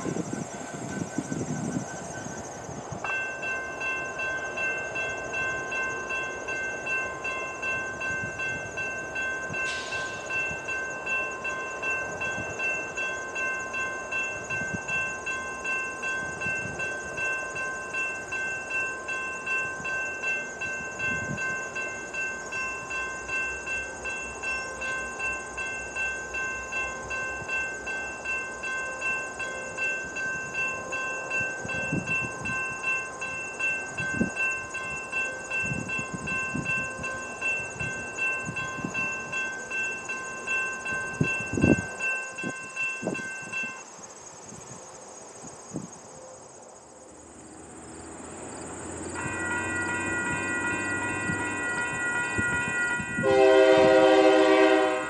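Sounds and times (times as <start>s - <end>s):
railroad crossing bell ringing: 0.0s - 46.5s, 47.1s - 55.0s.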